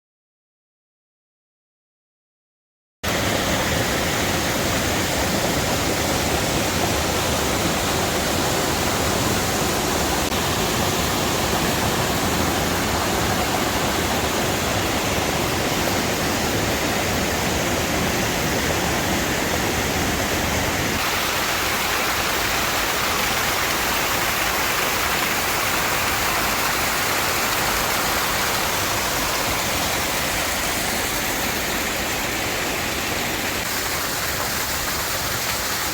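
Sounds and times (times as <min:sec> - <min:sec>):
waterfall rushing: 0:03.1 - 0:35.9.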